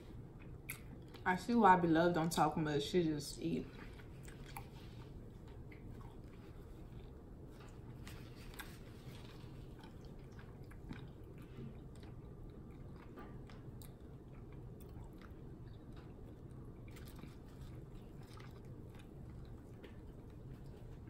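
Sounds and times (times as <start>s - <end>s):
person chewing food: 0.0s - 1.3s, 3.7s - 21.0s.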